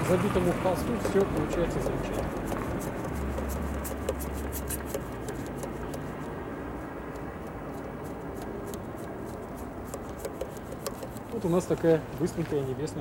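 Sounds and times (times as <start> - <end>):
paintbrush scratching on canvas: 0.0 - 11.9.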